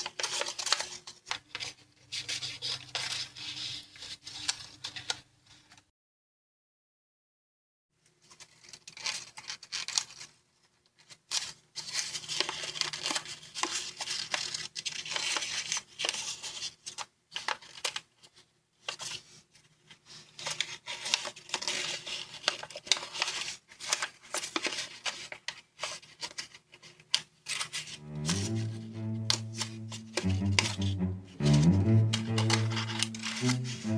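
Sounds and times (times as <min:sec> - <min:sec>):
paper crinkling and rustling: 0:00.0 - 0:05.9, 0:08.0 - 0:33.9.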